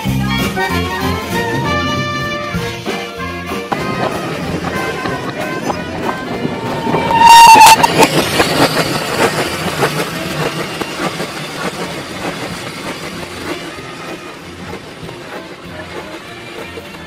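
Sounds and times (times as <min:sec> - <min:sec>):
locomotive exhaust beats: 0:00.0 - 0:17.0
rumble of moving train: 0:00.0 - 0:17.0
steam locomotive whistle: 0:00.0 - 0:17.0.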